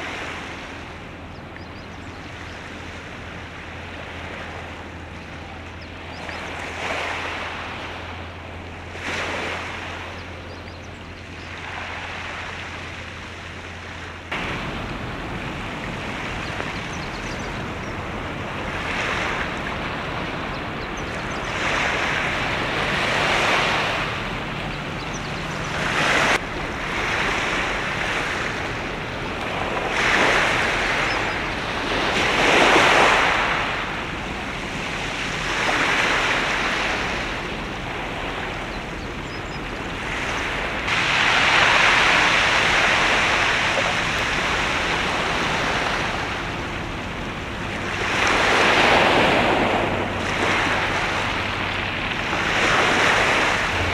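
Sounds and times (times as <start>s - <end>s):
steady wind: 0.0s - 53.9s
waves washing against shore: 0.0s - 53.9s.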